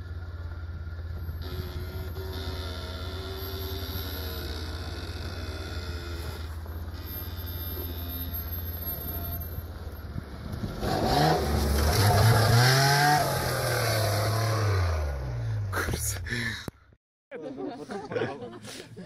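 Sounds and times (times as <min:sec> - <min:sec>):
off-road vehicle engine revving: 0:00.0 - 0:15.9.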